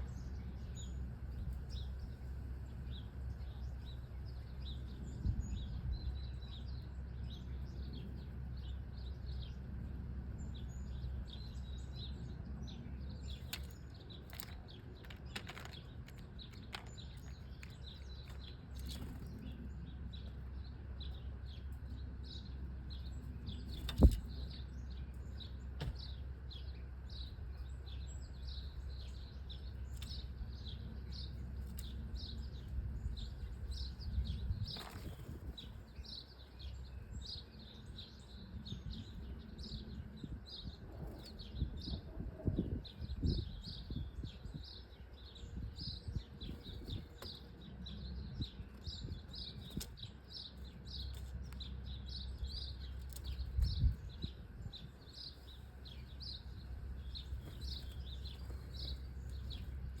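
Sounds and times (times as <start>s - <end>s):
low steady rumble: 0.0s - 60.0s
songbirds chirping: 0.0s - 60.0s.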